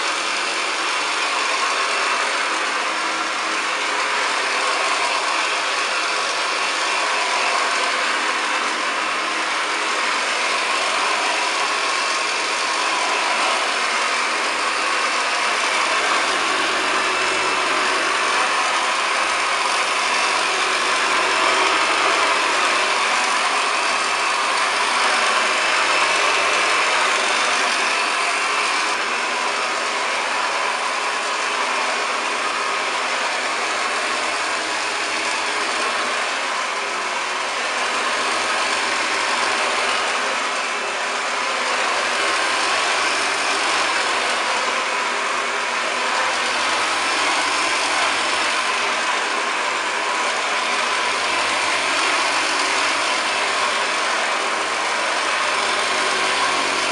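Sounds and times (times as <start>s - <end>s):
upright vacuum cleaner running: 0.0s - 56.9s.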